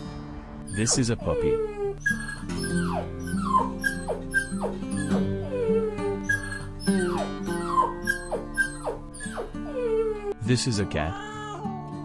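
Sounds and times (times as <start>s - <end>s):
background music with held notes: 0.0s - 12.0s
puppy whimpering and yelping: 0.7s - 10.4s.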